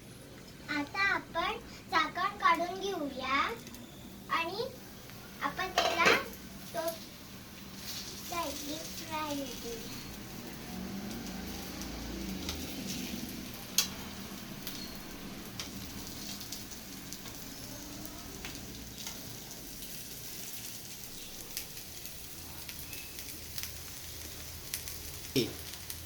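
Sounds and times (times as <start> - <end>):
pancakes sizzling in oil: 0.0 - 26.0.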